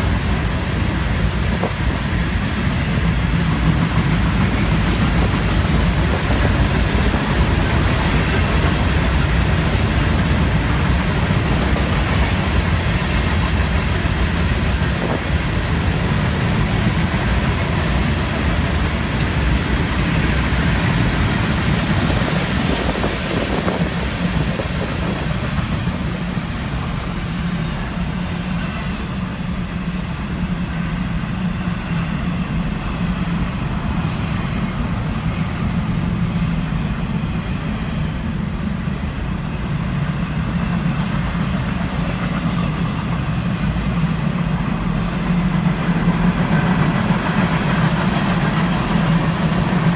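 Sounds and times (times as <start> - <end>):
freight train wheels rumbling on rail: 0.0 - 49.9.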